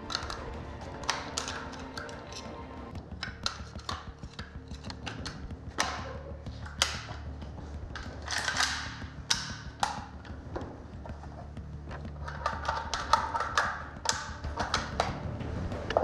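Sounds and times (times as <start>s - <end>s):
rifle parts clicking and clacking: 0.0s - 15.2s.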